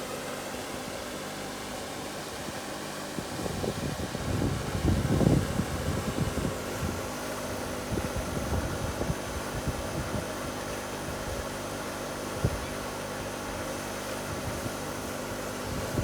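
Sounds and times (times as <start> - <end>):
mechanical hum with hiss: 0.0 - 16.0.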